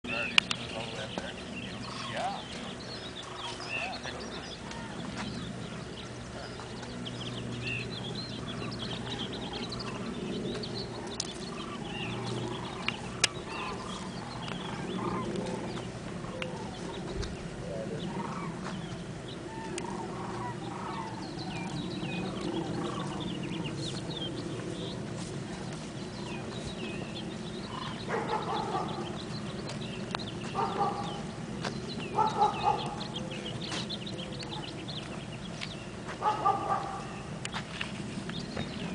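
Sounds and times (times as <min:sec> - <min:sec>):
birds clucking and chirping: 0:00.0 - 0:38.9
steady background rush: 0:00.1 - 0:38.9.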